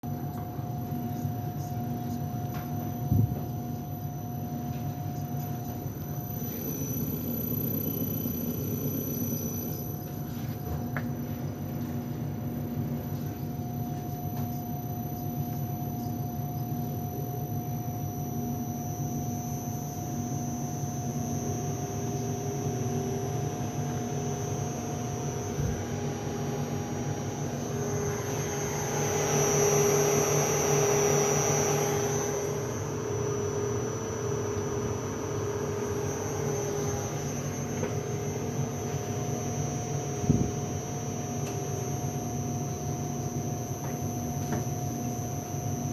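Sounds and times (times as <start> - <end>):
electric motor humming and whining: 0.0 - 45.9.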